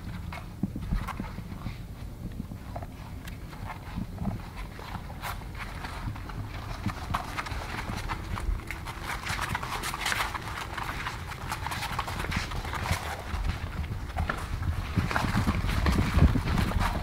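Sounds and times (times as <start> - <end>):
puppy claws clicking on hard floor: 0.0 - 17.0.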